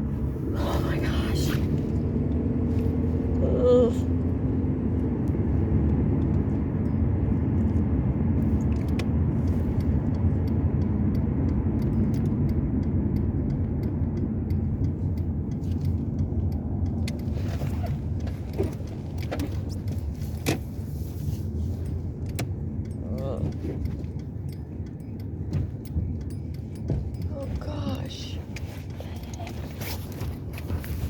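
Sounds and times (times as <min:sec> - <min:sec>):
car engine low rumble: 0:00.0 - 0:31.0
light clicks and jingles: 0:04.1 - 0:31.0.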